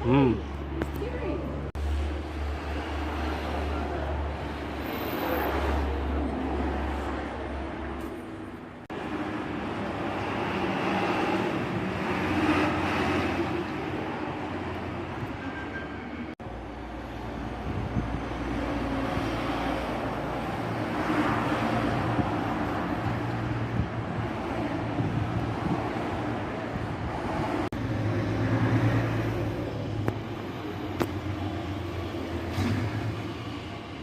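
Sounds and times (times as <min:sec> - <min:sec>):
heavy vehicle engines passing by: 0:00.0 - 0:34.0.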